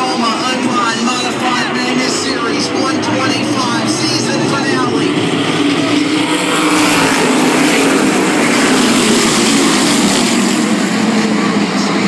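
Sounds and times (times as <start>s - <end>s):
race cars passing at speed: 0.0s - 12.0s.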